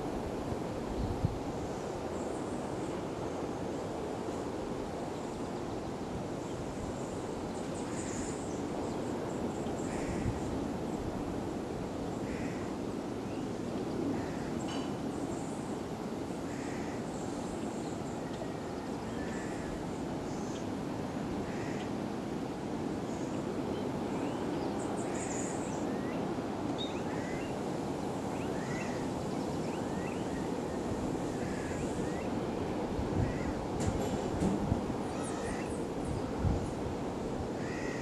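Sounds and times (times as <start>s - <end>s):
distant sea: 0.0s - 38.0s
wind: 0.0s - 38.0s.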